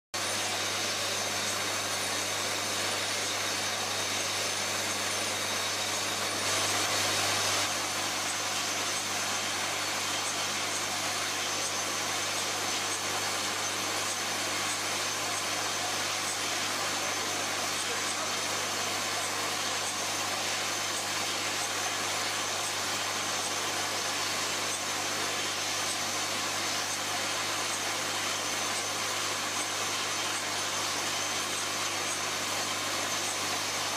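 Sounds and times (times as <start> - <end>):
machine hum and whir: 0.2 - 33.9.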